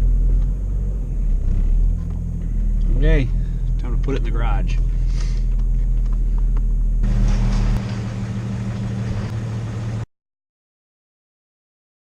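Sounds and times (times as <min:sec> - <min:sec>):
car engine running from inside cabin: 0:00.0 - 0:10.1.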